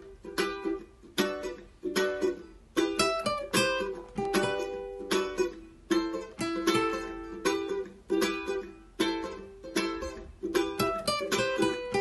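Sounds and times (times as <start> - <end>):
acoustic guitars strumming chords: 0.0 - 12.0.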